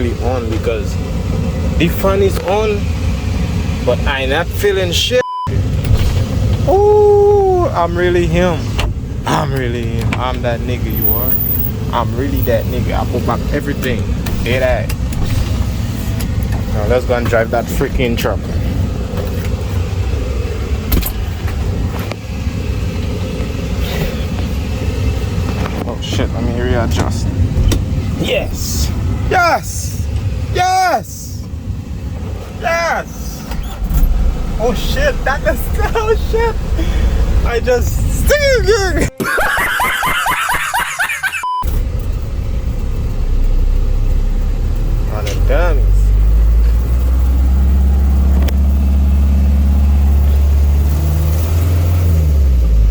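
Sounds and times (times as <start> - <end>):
truck engine rumbling: 0.0 - 52.9.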